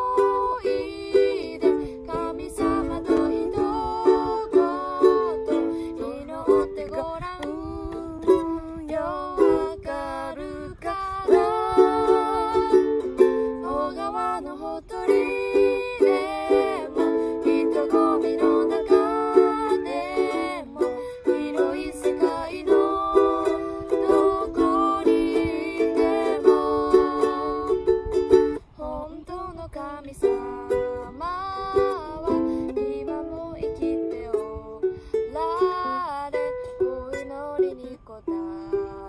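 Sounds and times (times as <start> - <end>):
ukulele strumming: 0.0 - 28.9, 30.1 - 39.0
woman singing: 0.0 - 39.0.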